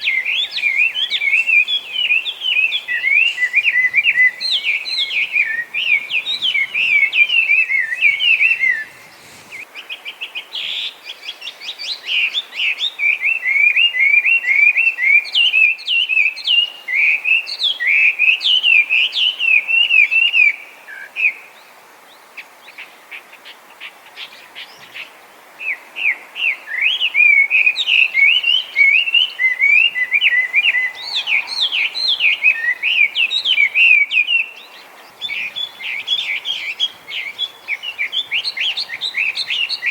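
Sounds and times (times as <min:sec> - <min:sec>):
bird singing whistled notes: 0:00.0 - 0:09.6, 0:10.2 - 0:21.5, 0:25.6 - 0:39.9.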